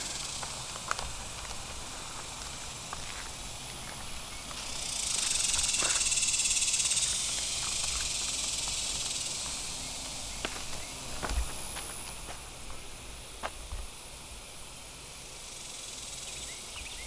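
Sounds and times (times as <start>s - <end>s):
footsteps through brush: 0.0s - 14.0s
shrill insect buzz: 0.0s - 17.0s.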